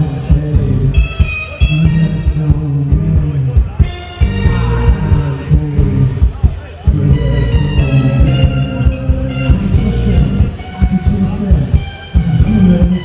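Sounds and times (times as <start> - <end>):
drum hits: 0.0 - 13.0
electric guitar: 0.0 - 13.0
heavy bass line: 0.0 - 13.0
singer's voice: 0.0 - 13.0.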